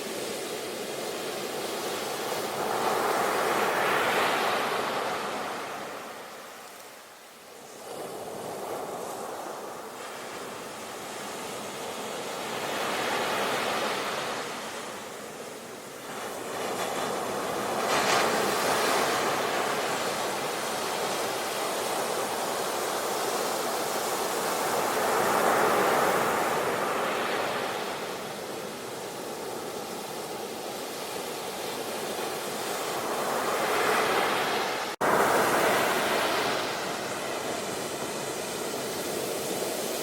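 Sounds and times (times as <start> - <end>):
sea waves breaking on shore: 0.0 - 40.0.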